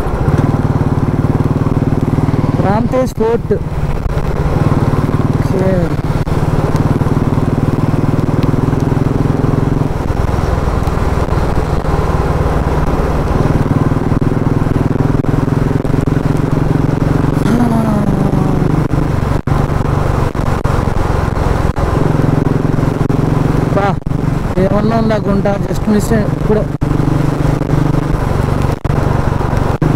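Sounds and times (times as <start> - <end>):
motorcycle engine running: 0.0 - 29.9
wind rushing over microphone: 0.0 - 29.9.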